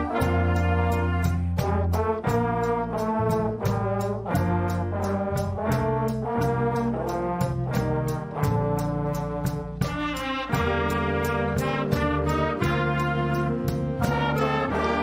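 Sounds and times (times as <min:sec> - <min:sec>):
brass section playing: 0:00.0 - 0:15.0
percussion beat: 0:00.0 - 0:15.0.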